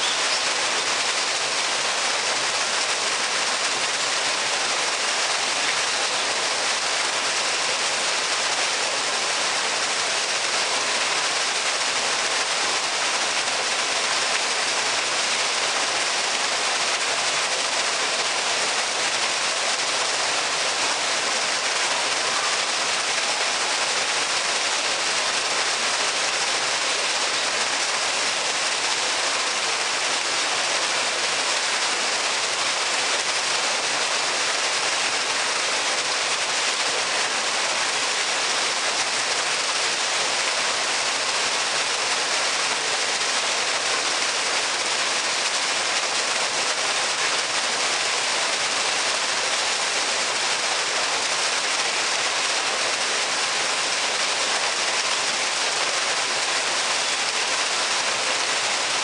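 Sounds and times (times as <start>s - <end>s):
water splashing into stone pool: 0.0s - 59.0s.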